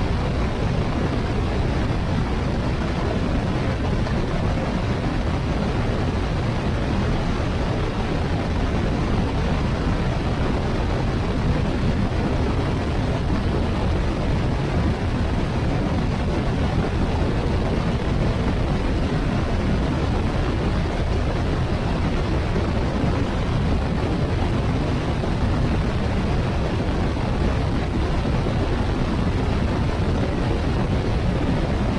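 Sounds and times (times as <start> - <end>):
wind and road noise: 0.0 - 31.9.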